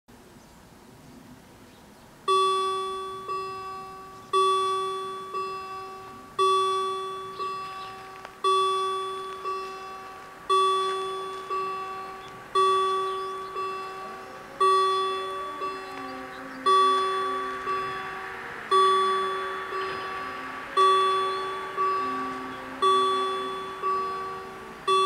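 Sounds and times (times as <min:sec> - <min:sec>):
level crossing warning bells ringing: 0:01.4 - 0:25.0.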